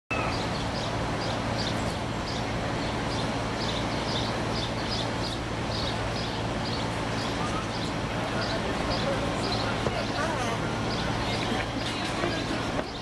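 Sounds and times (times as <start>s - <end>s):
small birds chirping: 0.1s - 13.0s
traffic engine hum: 0.1s - 13.0s.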